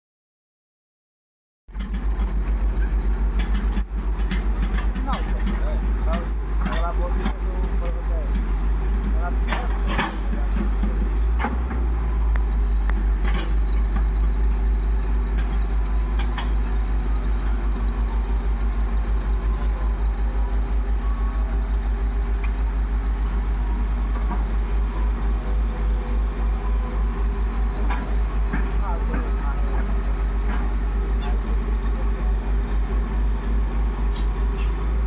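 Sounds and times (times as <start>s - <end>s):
diesel engine idling: 1.7s - 35.0s.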